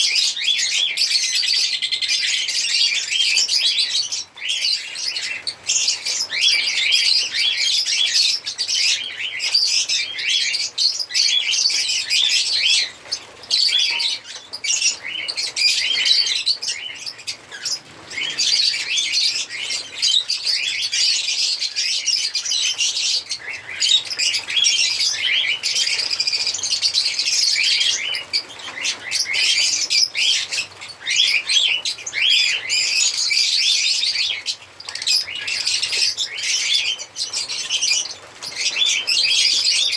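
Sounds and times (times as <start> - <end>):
lovebirds chirping and twittering: 0.0 - 39.9.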